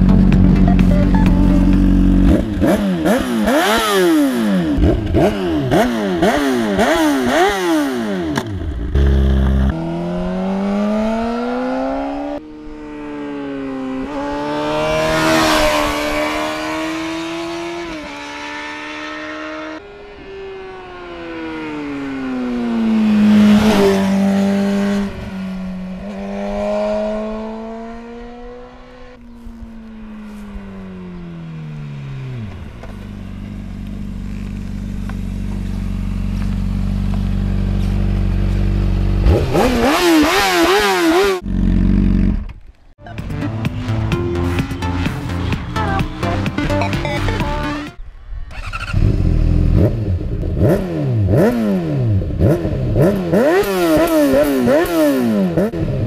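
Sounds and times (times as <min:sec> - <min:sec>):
motorcycle accelerating through gears: 0:00.0 - 0:42.6, 0:48.5 - 0:56.0
motorcycle engine revving: 0:00.0 - 0:42.9, 0:47.7 - 0:56.0.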